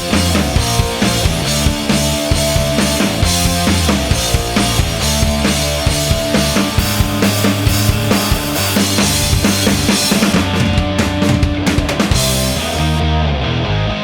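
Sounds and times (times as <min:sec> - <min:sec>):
bass drum and snare beating: 0:00.0 - 0:13.0
rock music: 0:00.0 - 0:14.0
sustained bass notes: 0:00.0 - 0:14.0.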